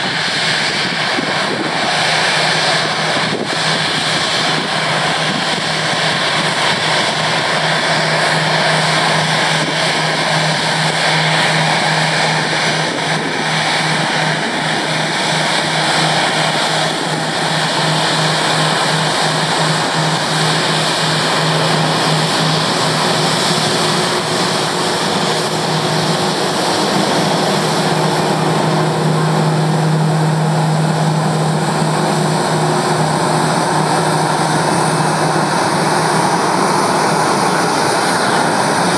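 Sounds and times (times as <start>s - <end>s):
jet engines at taxi power: 0.0s - 38.9s.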